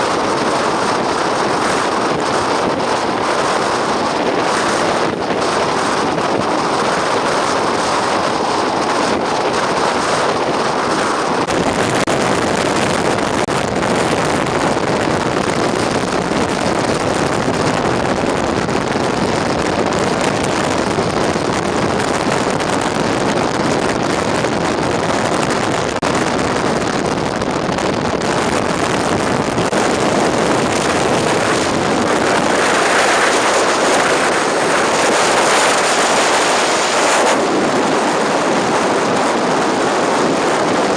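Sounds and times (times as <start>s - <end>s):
wind blasting microphone: 0.0s - 40.9s.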